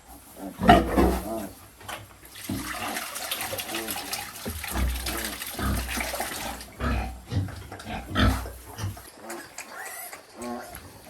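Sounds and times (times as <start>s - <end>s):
pigs grunting and squealing: 0.0s - 1.8s, 2.4s - 11.0s.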